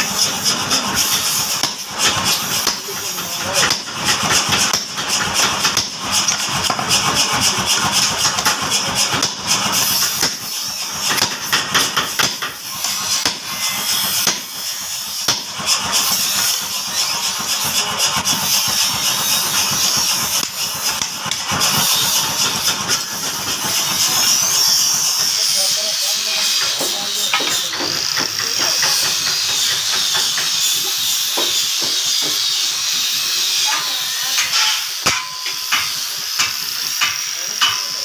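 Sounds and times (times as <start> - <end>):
hand shears snipping metal: 0.0 - 17.4, 18.2 - 25.4, 26.0 - 38.0.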